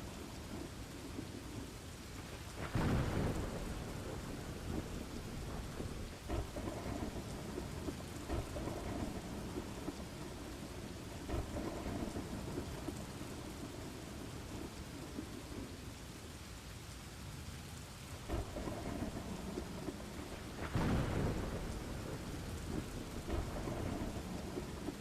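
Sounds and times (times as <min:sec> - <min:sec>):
low rumbling thunder: 0:00.0 - 0:15.8, 0:18.2 - 0:25.0
steady rain: 0:00.0 - 0:25.0.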